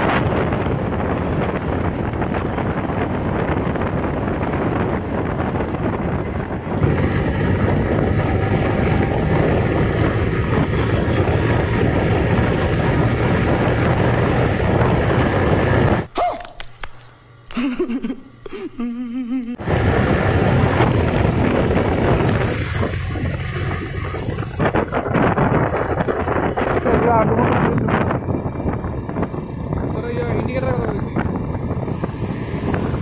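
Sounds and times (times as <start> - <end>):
motorcycle engine running: 0.0 - 16.1, 19.6 - 33.0
wind rushing over microphone: 0.0 - 16.1, 19.6 - 33.0.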